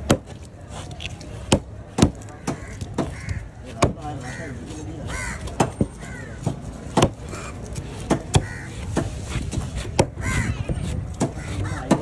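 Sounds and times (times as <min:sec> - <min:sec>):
knife chopping fish on wood: 0:00.0 - 0:04.1, 0:05.4 - 0:10.2, 0:10.8 - 0:12.0.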